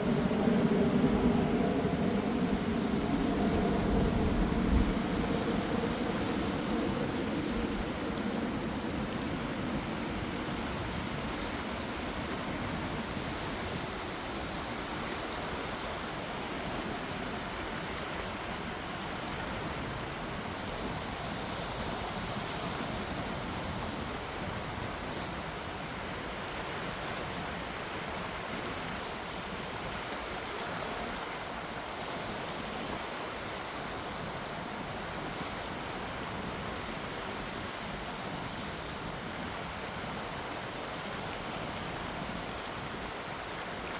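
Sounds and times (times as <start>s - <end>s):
gentle waves washing: 0.0s - 43.9s.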